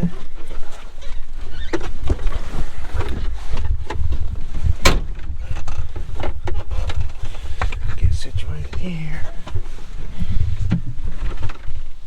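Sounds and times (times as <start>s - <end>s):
wind buffeting microphone: 2.0s - 12.0s.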